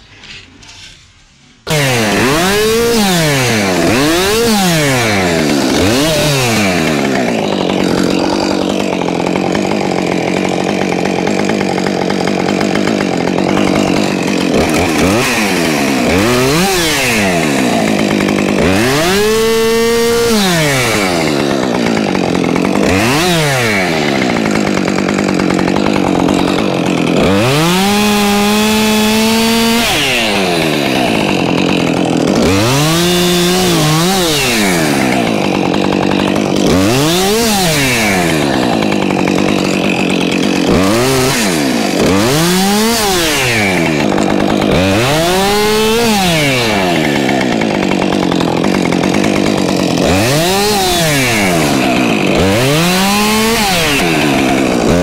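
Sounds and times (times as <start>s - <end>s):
chainsaw cutting wood: 1.6s - 55.0s.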